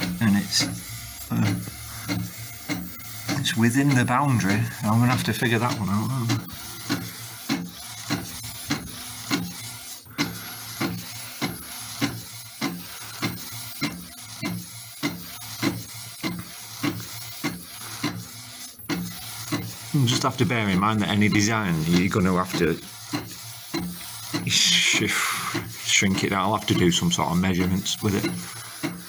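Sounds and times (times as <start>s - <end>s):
printer carriage whirring: 0.0s - 29.0s
printer carriage clack: 1.4s - 24.8s, 25.5s - 29.0s.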